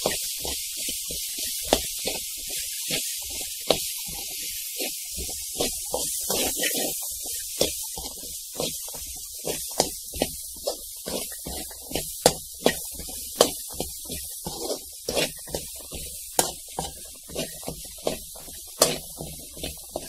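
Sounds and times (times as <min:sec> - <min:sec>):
pulses rustling in a bowl: 0:00.0 - 0:20.0.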